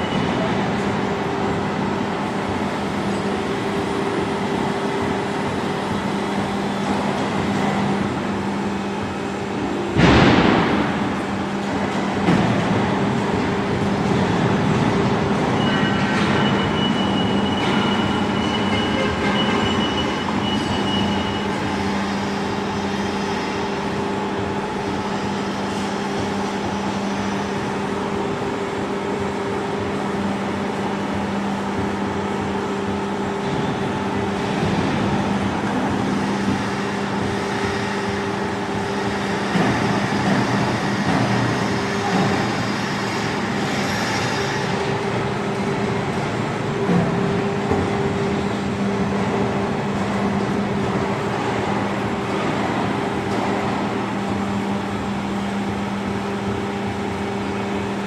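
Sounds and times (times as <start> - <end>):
machine mechanical hum: 0.0 - 58.0.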